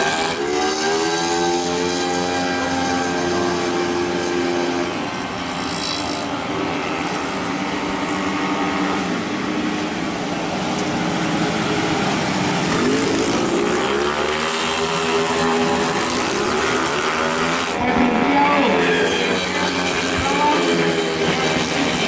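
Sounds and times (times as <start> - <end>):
scooter engines buzzing: 0.0 - 22.0.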